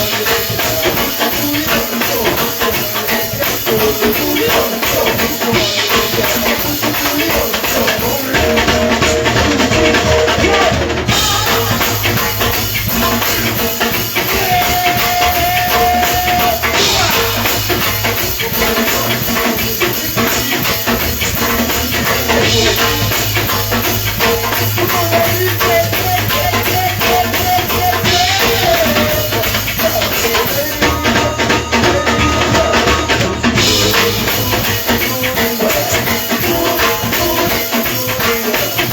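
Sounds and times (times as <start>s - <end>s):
drum kit groove: 0.0s - 38.9s
live band music: 0.0s - 38.9s.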